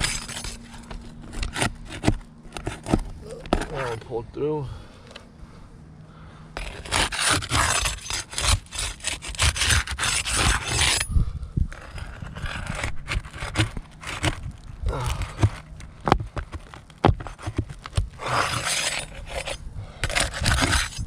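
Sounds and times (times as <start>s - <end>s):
tool scraping under roof shingles: 0.0s - 4.2s, 6.6s - 11.0s, 11.7s - 21.0s.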